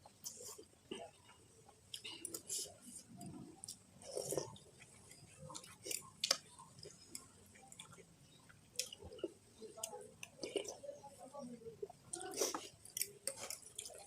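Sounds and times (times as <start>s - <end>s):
wet chewing of noodles: 0.0s - 10.9s, 11.8s - 14.0s.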